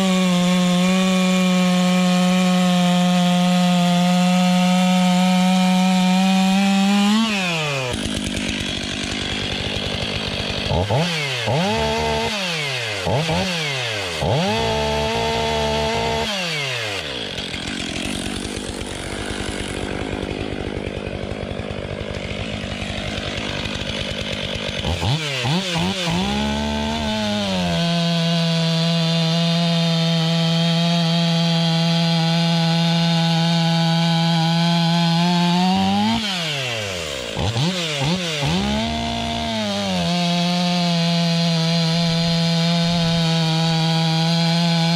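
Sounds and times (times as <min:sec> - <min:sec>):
chainsaw cutting wood: 0:00.0 - 0:44.9
chainsaw revving: 0:00.0 - 0:44.9.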